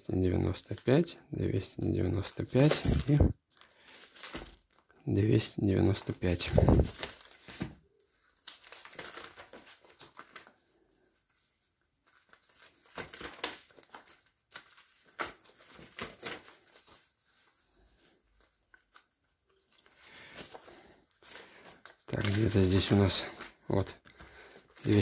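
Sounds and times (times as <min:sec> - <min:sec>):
paper sheets rustling: 0:02.3 - 0:04.8, 0:05.9 - 0:25.0.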